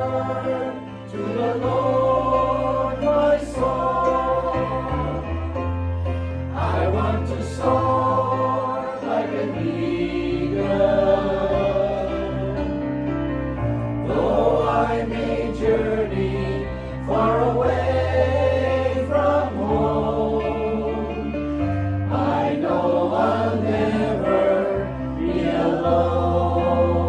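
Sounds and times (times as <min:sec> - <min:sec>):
gospel choir singing: 0:00.0 - 0:27.0.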